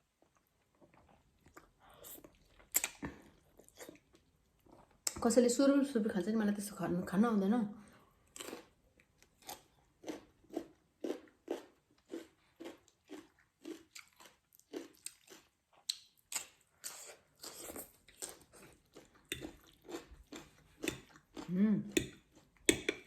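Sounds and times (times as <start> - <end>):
close chewing and crunching: 0.0 - 5.2, 8.2 - 23.0.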